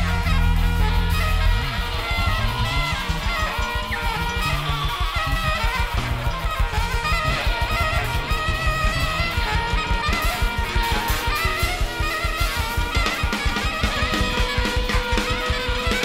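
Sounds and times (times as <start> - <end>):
bass: 0.0 - 16.0
electric guitar: 0.0 - 16.0
rapid drumming: 0.0 - 16.0
saxophone: 0.0 - 16.0.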